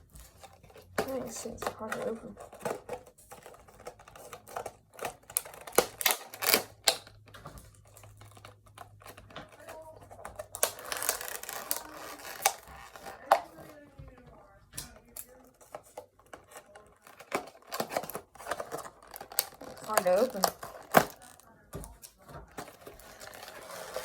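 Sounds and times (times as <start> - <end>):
plastic packaging crinkling: 0.0 - 13.9, 14.9 - 24.0.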